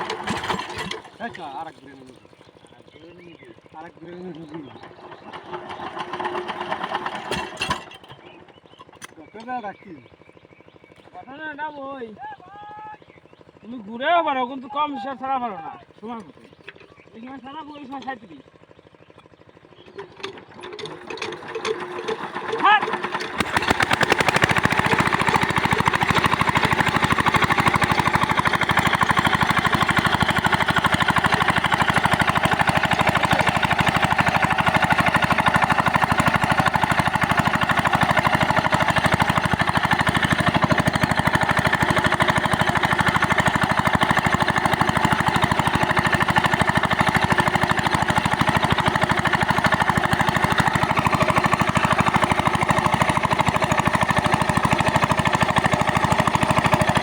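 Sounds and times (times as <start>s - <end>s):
diesel pump engine knocking: 0.0s - 57.0s.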